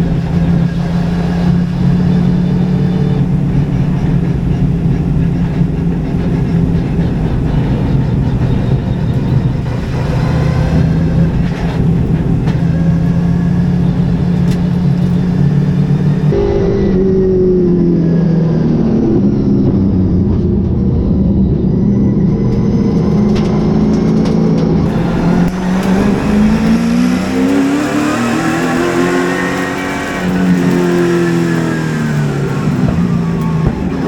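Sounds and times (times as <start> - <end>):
race car engine revving: 0.0 - 19.6, 22.4 - 34.0.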